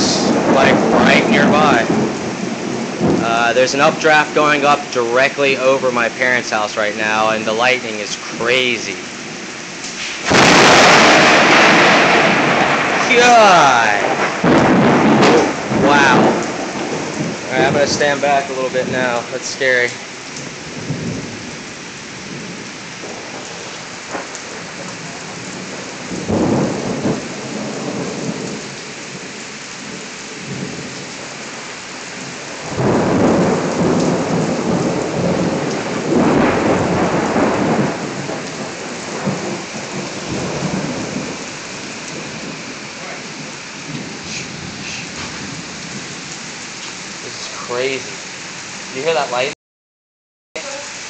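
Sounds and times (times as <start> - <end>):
thunder rumbling: 0.0 - 49.5
heavy rain falling: 0.0 - 49.6, 50.6 - 51.0.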